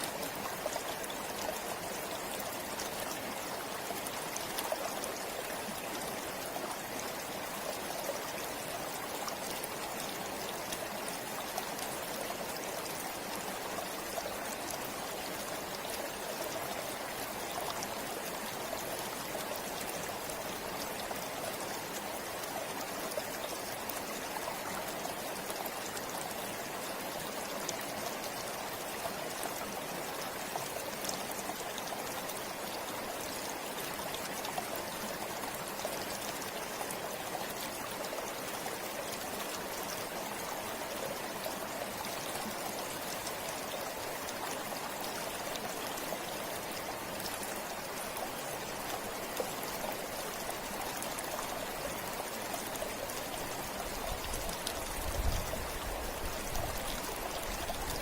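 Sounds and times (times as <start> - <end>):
river water babbling over stones: 0.0 - 58.0.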